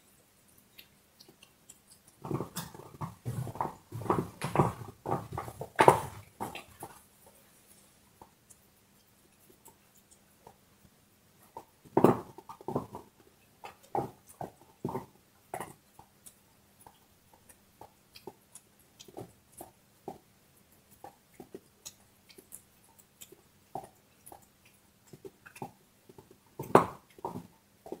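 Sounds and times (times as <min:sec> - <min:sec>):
dog gnawing a bone: 0:00.4 - 0:07.4, 0:11.4 - 0:28.0.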